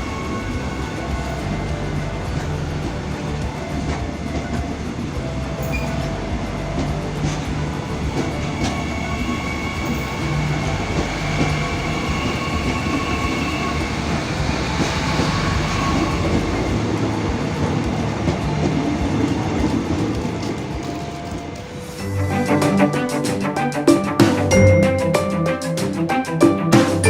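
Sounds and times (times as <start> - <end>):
train wheels clacking: 0.0 - 22.0.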